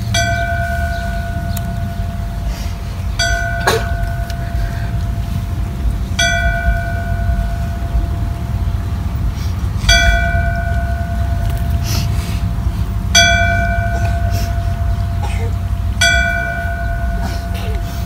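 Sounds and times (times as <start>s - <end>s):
bell tolling: 0.0s - 5.4s, 6.1s - 8.8s, 9.8s - 12.1s, 12.9s - 18.0s.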